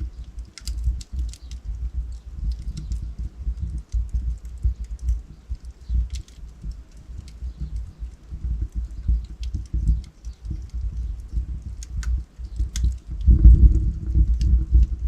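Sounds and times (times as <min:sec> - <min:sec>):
firewood crackling and popping: 0:00.0 - 0:15.0
low rumble of flame: 0:00.0 - 0:15.0.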